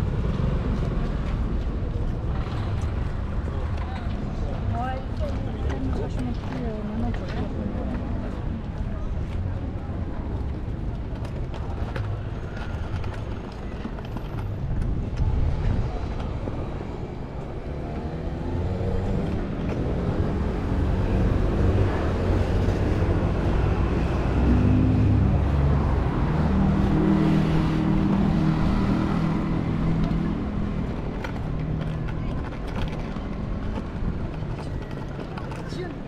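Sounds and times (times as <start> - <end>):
low traffic rumble: 0.0 - 36.0.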